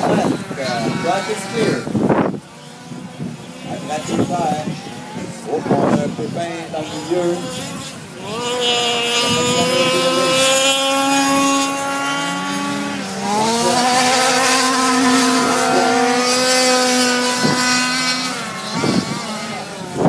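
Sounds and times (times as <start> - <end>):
small two-stroke engines buzzing: 0.0 - 20.0.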